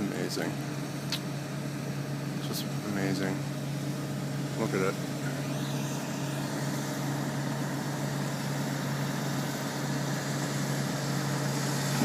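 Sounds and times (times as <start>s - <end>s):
crane engine humming: 0.0s - 12.0s.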